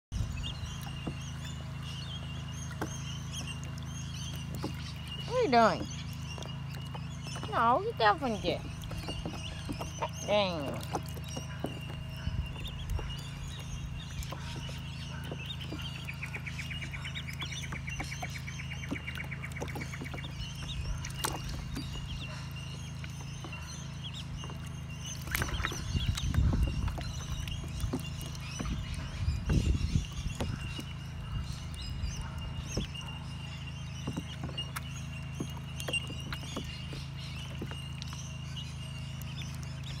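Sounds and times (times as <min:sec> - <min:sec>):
ducklings peeping: 0:00.1 - 0:40.0
low noisy rumble: 0:00.1 - 0:40.0.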